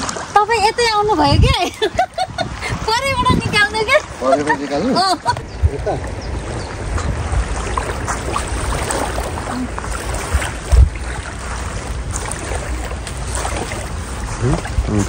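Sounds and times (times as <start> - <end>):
small waves lapping: 0.0 - 15.0
wind on microphone: 0.0 - 15.0.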